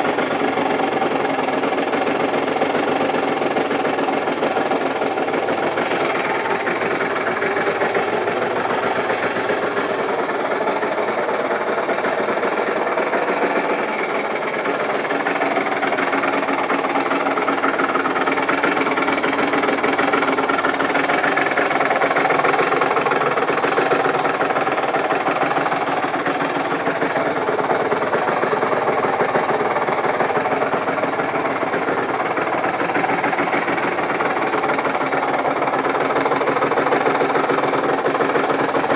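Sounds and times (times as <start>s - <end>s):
two-stroke motorcycle engine running: 0.0s - 38.9s.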